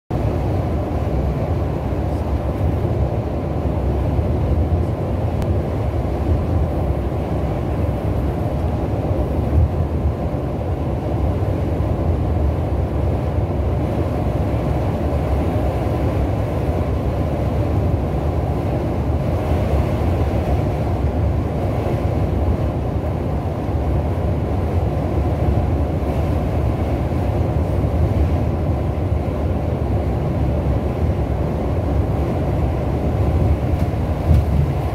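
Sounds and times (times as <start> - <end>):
coach engine and road noise: 0.1 - 34.9.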